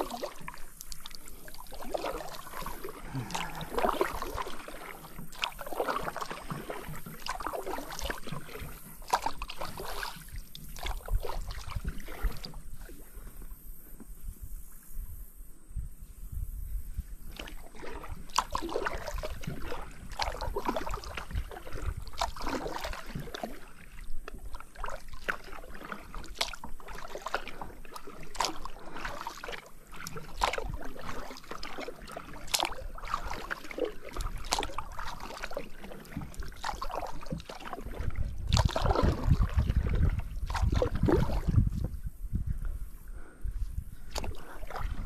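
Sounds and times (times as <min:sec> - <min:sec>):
paddle splashing in water: 0:00.0 - 0:14.8, 0:16.9 - 0:45.0.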